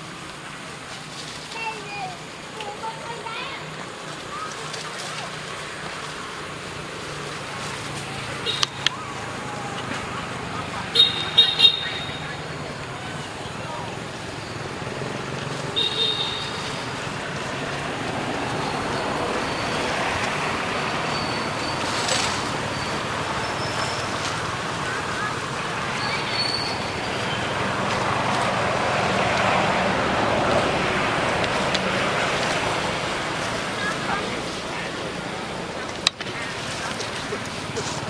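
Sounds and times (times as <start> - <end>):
distant traffic: 0.0 - 38.0.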